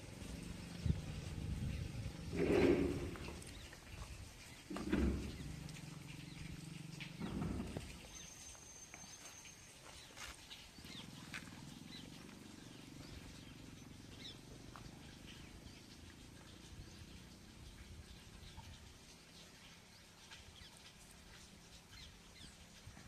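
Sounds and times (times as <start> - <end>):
bird chirps: 1.6 - 20.9.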